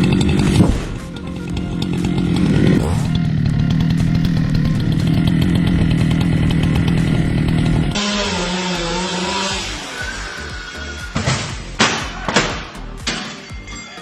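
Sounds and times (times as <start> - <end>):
chainsaw running at high revs: 0.0 - 11.7.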